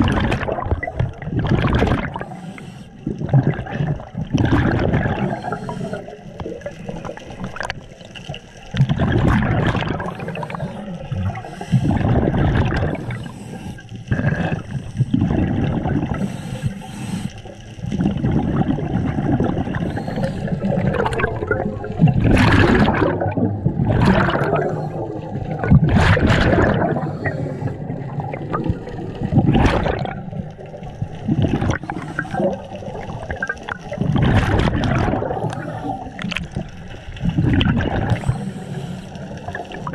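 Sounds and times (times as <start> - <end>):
exhaled bubbles rushing and gurgling: 0.0 - 39.9.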